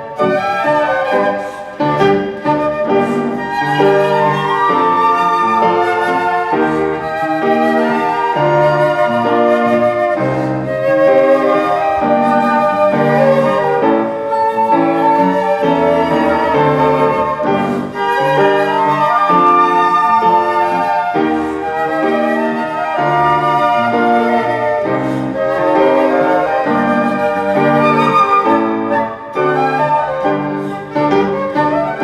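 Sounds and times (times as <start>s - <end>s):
flute playing a melody: 0.0s - 32.0s
piano chords: 0.0s - 32.0s.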